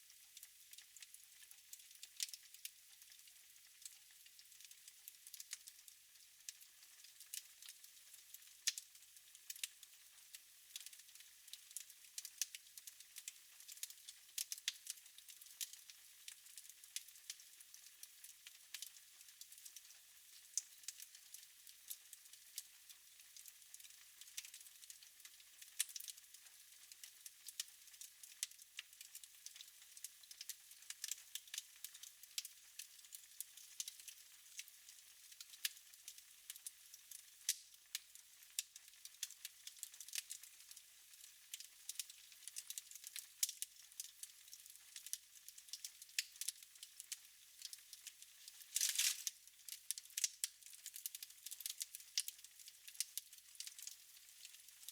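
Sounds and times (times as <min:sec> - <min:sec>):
wood fire crackling: 0:00.4 - 0:05.9, 0:06.5 - 0:07.8, 0:08.4 - 0:09.9, 0:10.7 - 0:17.4, 0:18.2 - 0:22.7, 0:23.4 - 0:26.2, 0:26.9 - 0:54.9.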